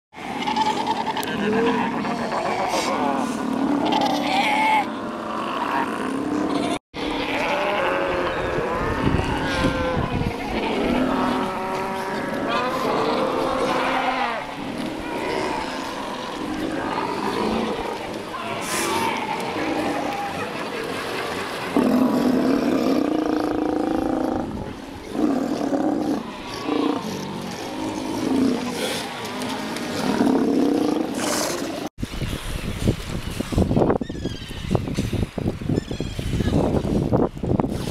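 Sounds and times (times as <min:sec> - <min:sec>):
sea lions calling: 0:00.2 - 0:31.9.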